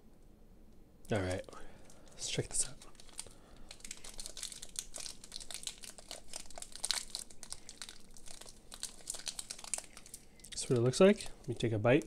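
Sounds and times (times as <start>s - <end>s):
plastic wrapper tearing: 2.0s - 12.0s.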